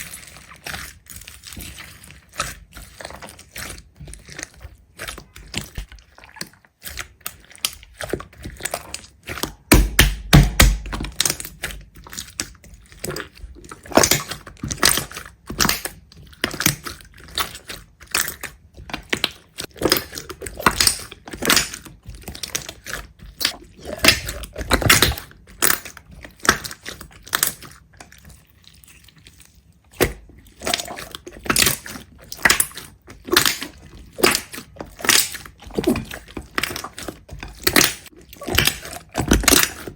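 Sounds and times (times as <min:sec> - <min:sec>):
crisp crunching and crackling: 0:00.0 - 0:39.9.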